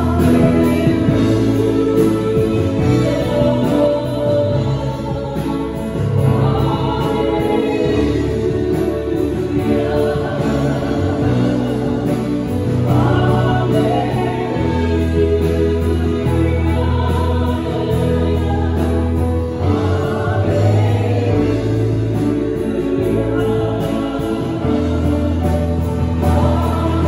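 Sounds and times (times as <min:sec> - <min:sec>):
bass notes: 0:00.0 - 0:27.0
drums: 0:00.0 - 0:27.0
keyboard: 0:00.0 - 0:27.0
woman singing: 0:00.0 - 0:27.0.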